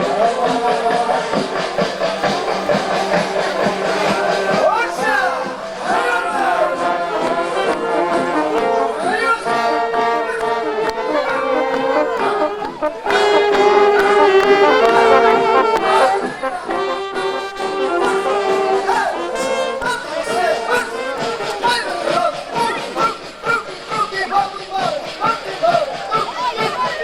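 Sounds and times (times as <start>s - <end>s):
brass instruments playing melody: 0.0s - 26.9s.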